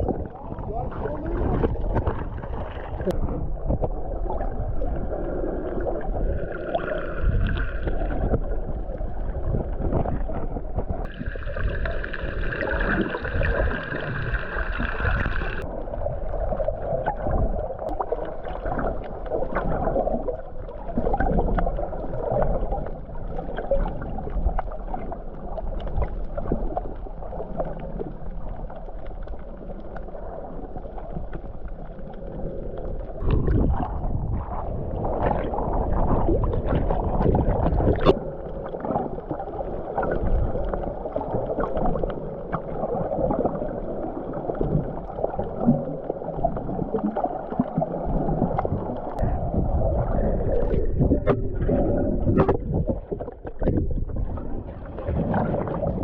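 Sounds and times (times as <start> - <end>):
water gurgling and splashing: 0.0 - 56.0.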